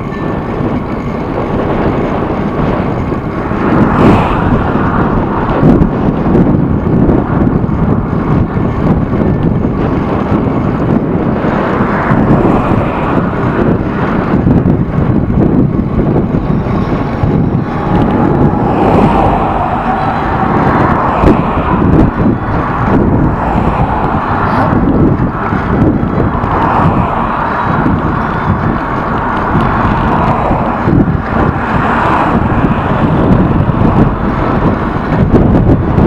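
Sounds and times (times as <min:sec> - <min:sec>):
vehicle rumbling: 0:00.0 - 0:36.0
wind buffeting microphone: 0:00.0 - 0:36.0.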